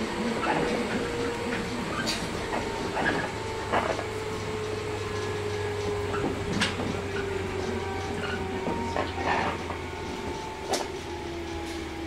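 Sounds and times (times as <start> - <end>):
train low hum: 0.0 - 12.0.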